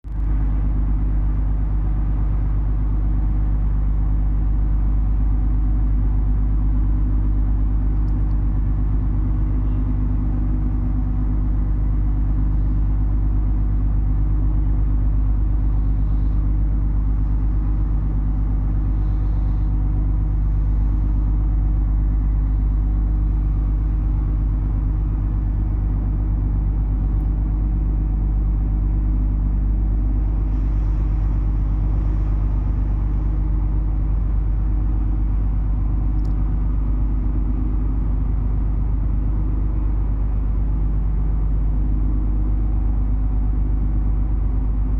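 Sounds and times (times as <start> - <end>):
ship diesel engines droning: 0.1 - 44.8.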